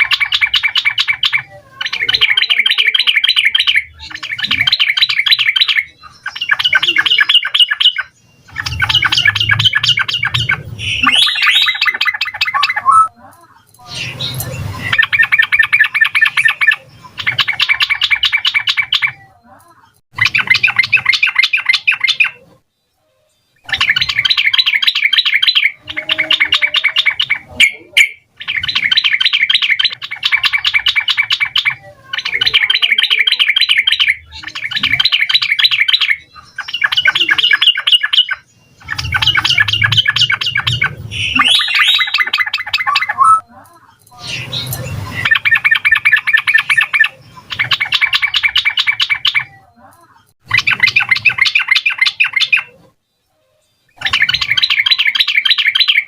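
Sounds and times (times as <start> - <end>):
bird singing bubbly phrases: 0.0 - 22.6, 23.6 - 53.0, 53.9 - 56.0.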